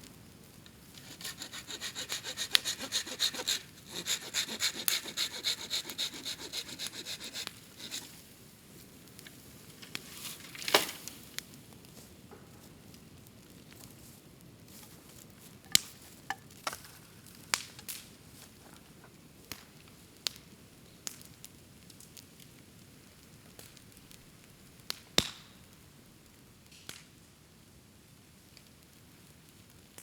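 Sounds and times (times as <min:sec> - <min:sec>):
bonfire crackling: 0:00.0 - 0:12.1, 0:12.9 - 0:27.0
low steady hiss: 0:00.0 - 0:30.0.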